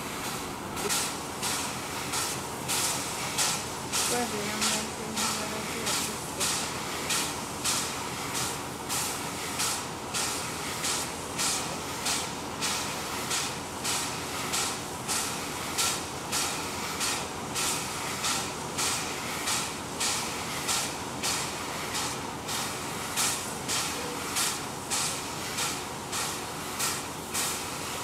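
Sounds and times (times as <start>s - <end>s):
steam locomotive rhythmic hissing: 0.0s - 28.0s.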